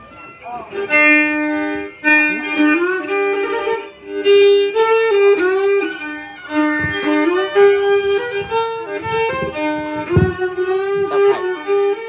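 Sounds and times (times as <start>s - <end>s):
bowed fiddle melody: 0.0s - 12.0s.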